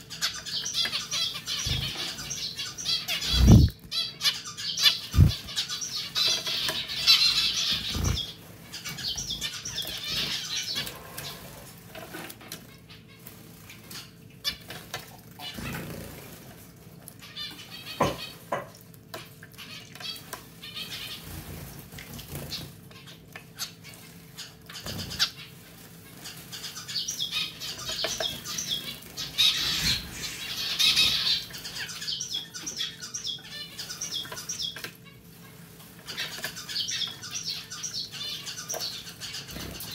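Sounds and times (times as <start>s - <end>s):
faint steady hum: 0.0s - 39.9s
birds splashing and fluttering: 0.1s - 39.9s.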